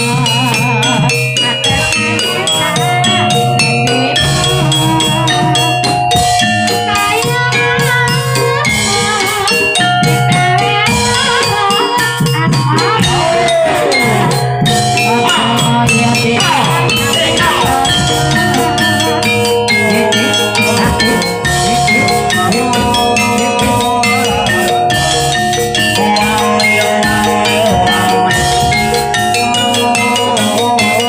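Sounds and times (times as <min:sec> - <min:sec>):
continuous drumming: 0:00.0 - 0:31.0
tuned metal percussion melody: 0:00.0 - 0:31.0.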